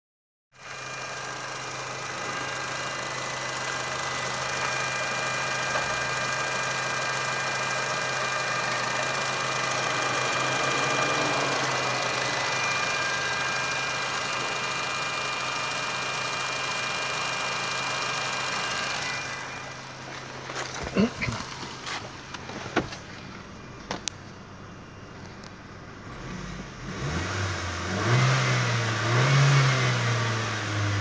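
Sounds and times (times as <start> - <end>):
car engine idling: 0.6 - 27.8.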